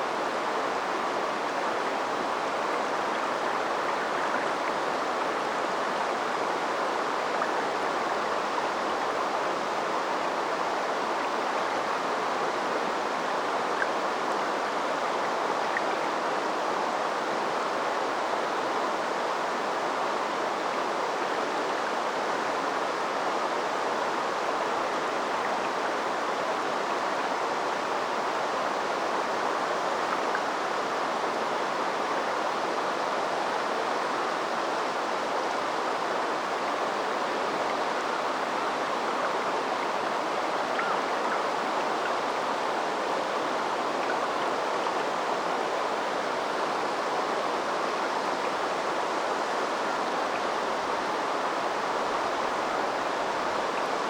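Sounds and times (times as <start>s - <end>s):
river water babbling: 0.0s - 54.0s.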